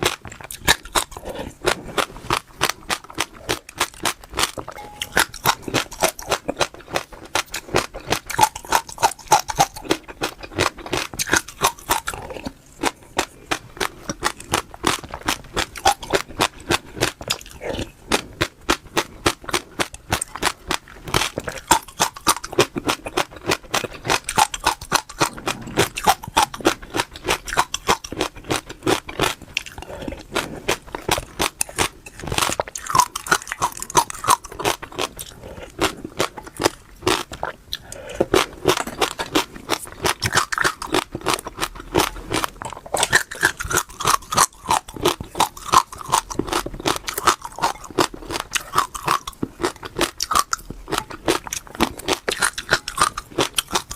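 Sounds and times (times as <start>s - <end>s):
chewing crunchy food: 0.0s - 53.9s.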